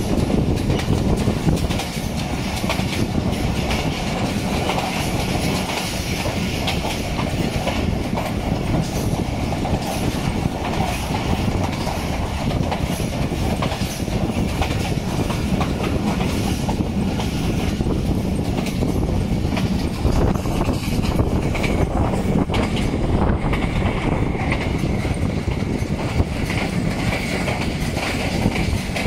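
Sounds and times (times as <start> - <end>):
clickety-clack over rail joints: 0.0 - 29.0
train wheels rumbling on rails: 0.0 - 29.0.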